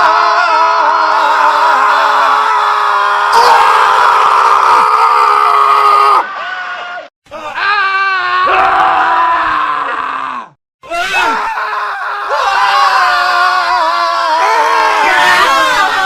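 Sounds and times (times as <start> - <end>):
men screaming: 0.0 - 16.0.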